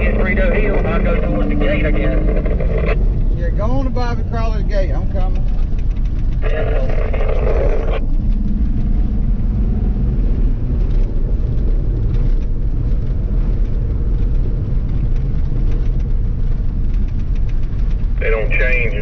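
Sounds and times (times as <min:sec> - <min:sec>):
vehicle engine and tyre rumble: 0:00.0 - 0:19.0.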